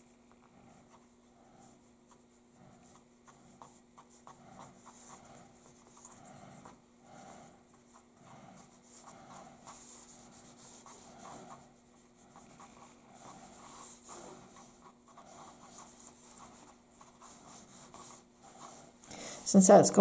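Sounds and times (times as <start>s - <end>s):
paintbrush rubbing on plastic: 0.0s - 19.1s
low steady hum: 0.0s - 20.0s.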